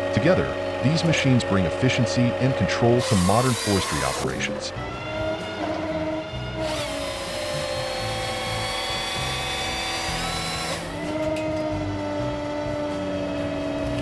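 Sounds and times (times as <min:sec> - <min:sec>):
background music: 0:00.0 - 0:14.0
power saw whining: 0:00.0 - 0:14.0.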